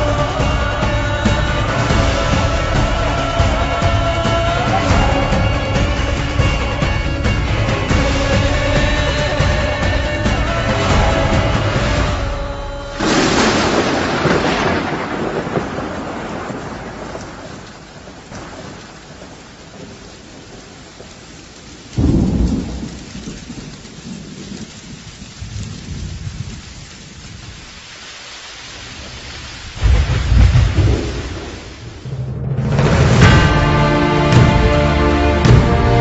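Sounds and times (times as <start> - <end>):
thunder: 0.0 - 20.7, 22.0 - 27.7, 28.9 - 36.0
steady rain: 0.0 - 36.0.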